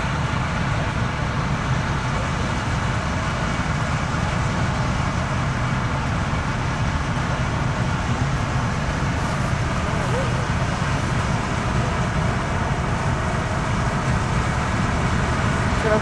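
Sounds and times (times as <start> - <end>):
combine harvester engine drone: 0.0 - 16.0
threshing machinery noise: 0.0 - 16.0.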